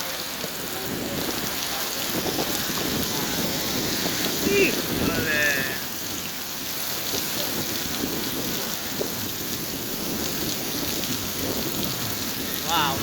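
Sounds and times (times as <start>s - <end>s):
heavy rain on hard surfaces: 0.0s - 13.0s.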